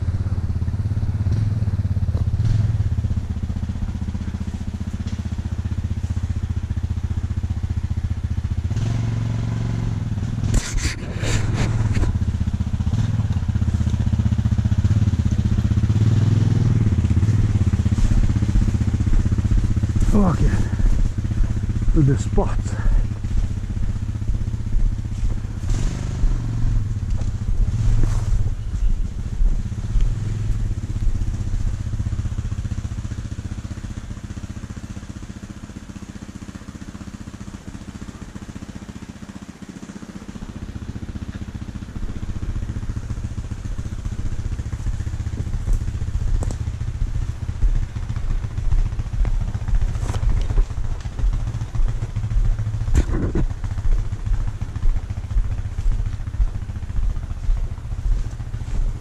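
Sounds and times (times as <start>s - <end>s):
off-road vehicle engine droning: 0.0s - 59.0s.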